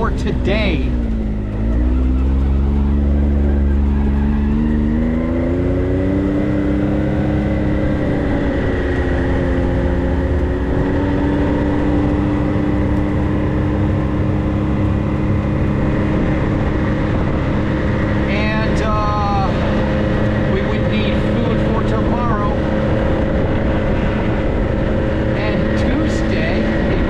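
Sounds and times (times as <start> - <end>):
deep rumble: 0.0 - 27.0
vehicle engine pulling: 0.0 - 27.0.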